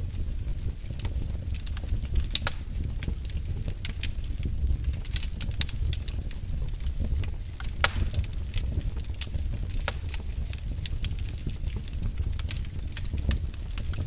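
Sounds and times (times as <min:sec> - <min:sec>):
fireplace fire crackling: 0:00.0 - 0:14.0
low rumble of flame: 0:00.0 - 0:14.0.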